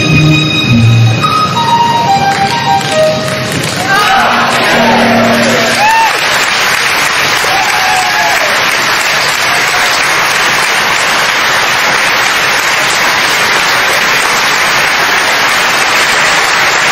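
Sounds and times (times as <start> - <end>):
audience applauding: 2.0 - 16.9.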